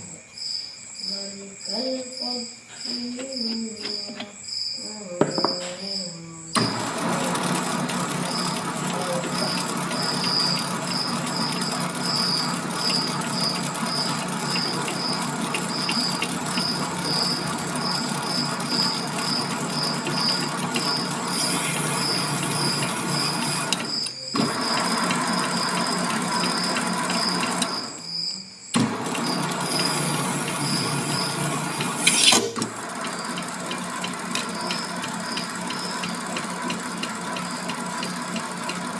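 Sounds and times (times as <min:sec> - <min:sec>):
lathe motor humming: 0:06.6 - 0:28.0, 0:28.8 - 0:38.9.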